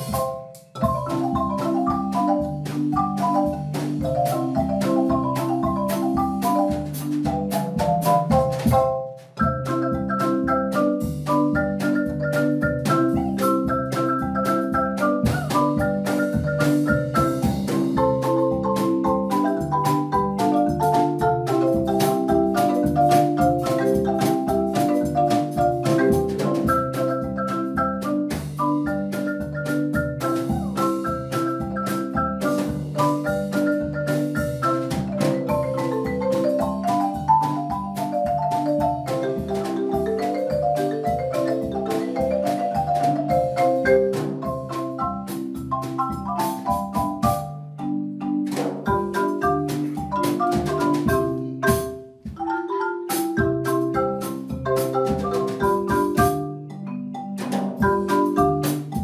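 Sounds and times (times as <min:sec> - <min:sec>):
marimba ensemble playing: 0:00.0 - 0:59.0.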